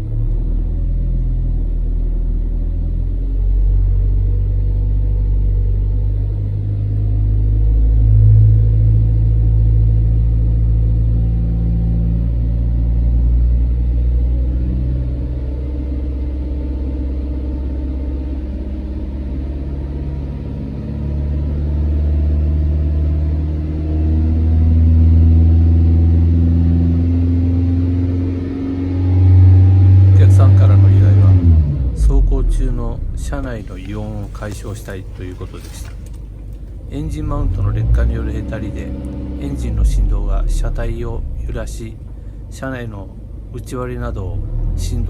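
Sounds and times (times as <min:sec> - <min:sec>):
car engine rumbling and revving: 0:00.0 - 0:45.0.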